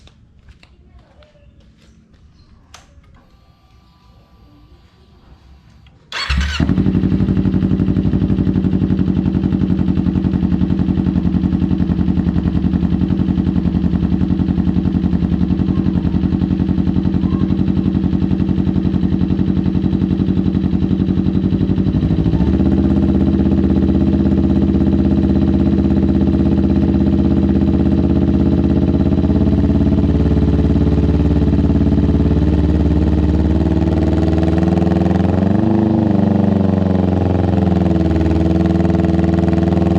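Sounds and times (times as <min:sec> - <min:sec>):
motorcycle engine idling: 0:06.1 - 0:39.9.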